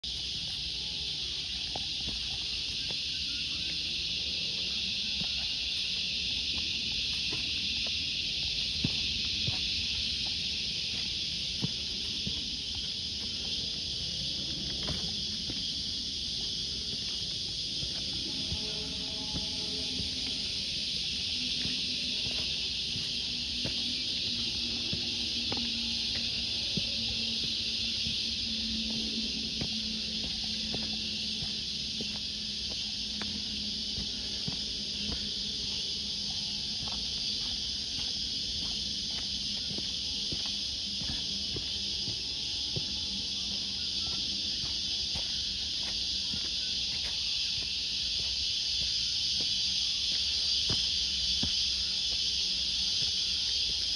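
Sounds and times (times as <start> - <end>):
faint scattered ticks: 0.0 - 53.9
insect chorus drone: 0.0 - 53.9
footsteps crunching on dry leaves: 0.1 - 53.9.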